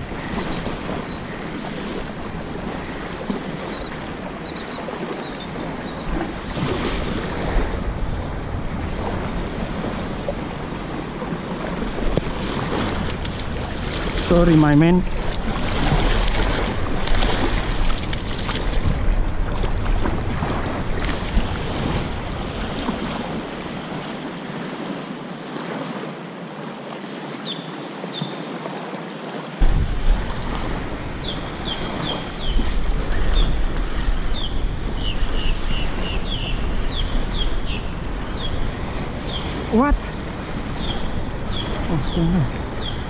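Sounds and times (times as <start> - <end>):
wind buffeting microphone: 0.0 - 24.6, 29.6 - 43.0
waves lapping on shore: 0.0 - 43.0.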